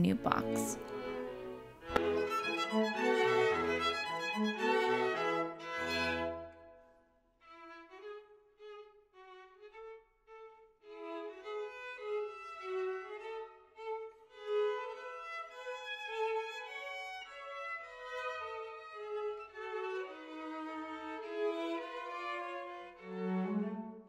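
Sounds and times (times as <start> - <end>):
violin melody: 0.0 - 24.0.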